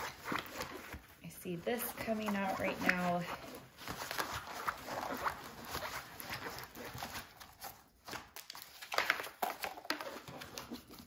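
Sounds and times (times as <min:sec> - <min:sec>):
rustling and crinkling of canvas and plastic: 0:00.0 - 0:11.0.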